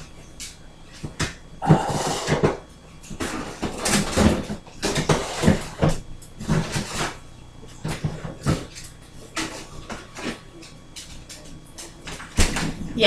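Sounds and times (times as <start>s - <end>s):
rummaging knocks and clatters: 0.9s - 13.0s.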